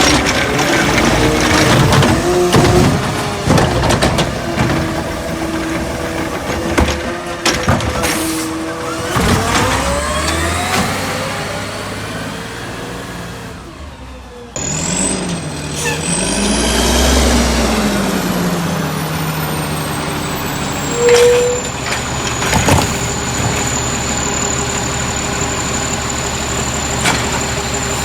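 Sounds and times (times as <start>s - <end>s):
diesel truck engine revving: 0.0s - 28.0s.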